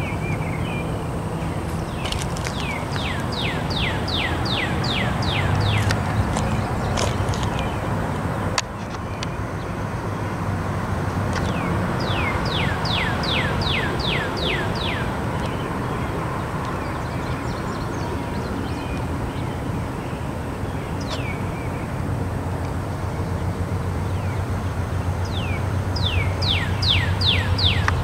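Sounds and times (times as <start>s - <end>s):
steady low background noise: 0.0s - 28.0s.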